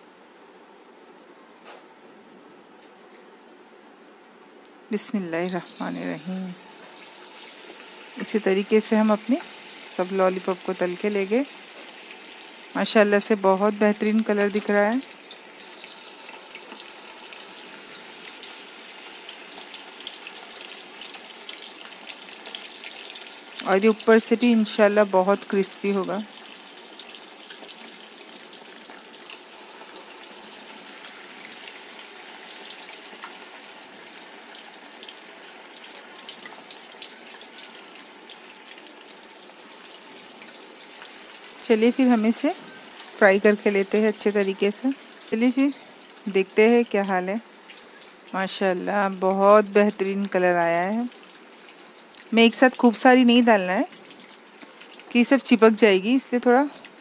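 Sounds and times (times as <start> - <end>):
food deep-frying in hot oil: 5.0 - 57.0.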